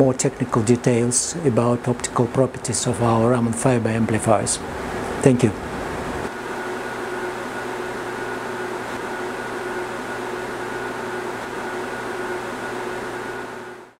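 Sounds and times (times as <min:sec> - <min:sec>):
lab equipment hum and hiss: 0:00.0 - 0:14.0.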